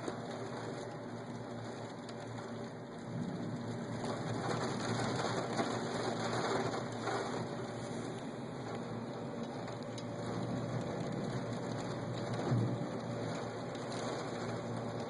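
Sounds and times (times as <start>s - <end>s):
thunderstorm rain falling: 0.0s - 15.0s.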